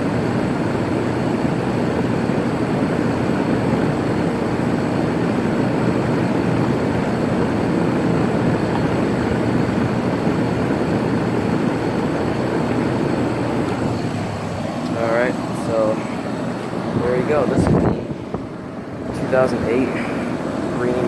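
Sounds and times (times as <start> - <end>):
air conditioner unit whooshing: 0.0 - 21.0.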